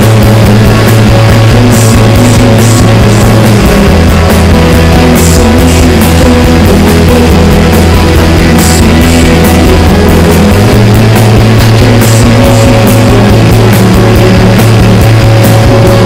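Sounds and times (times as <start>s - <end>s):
loud shoegaze rock music: 0.0s - 16.0s.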